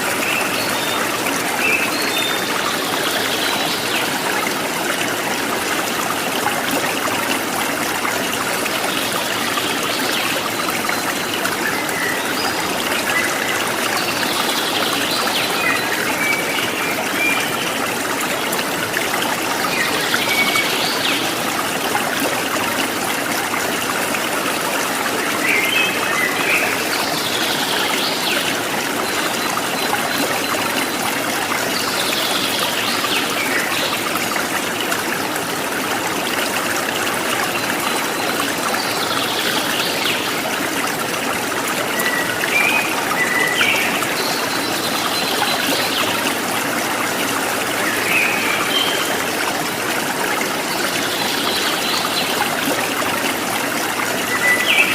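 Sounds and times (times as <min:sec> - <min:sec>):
stream trickling: 0:00.0 - 0:54.9.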